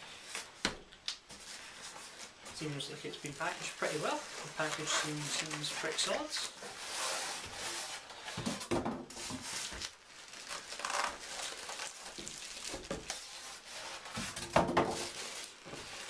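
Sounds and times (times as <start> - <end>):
packaging rustling and crinkling: 1.2 - 16.0.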